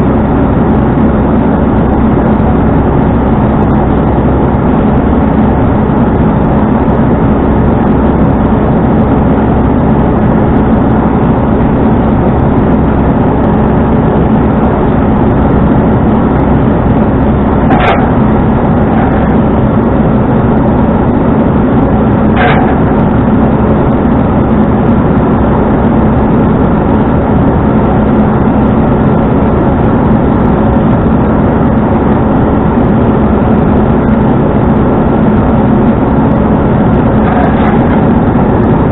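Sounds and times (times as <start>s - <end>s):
road noise: 0.0s - 38.9s
tow truck engine running: 0.0s - 38.9s.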